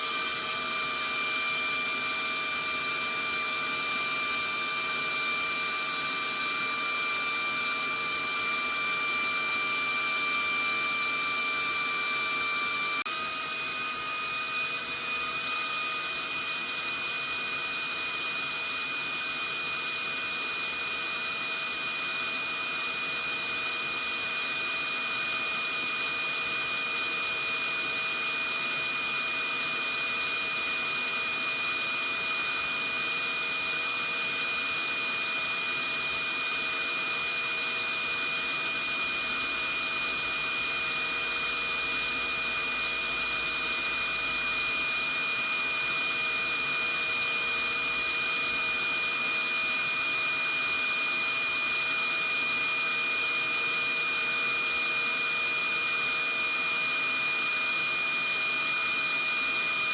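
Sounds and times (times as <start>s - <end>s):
vacuum cleaner motor whining: 0.0s - 59.9s.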